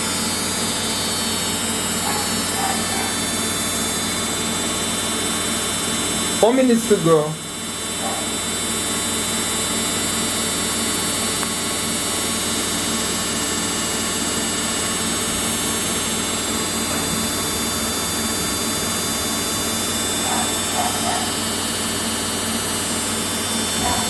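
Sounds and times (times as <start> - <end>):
washing machine drum spinning: 0.0 - 6.8, 10.3 - 24.0.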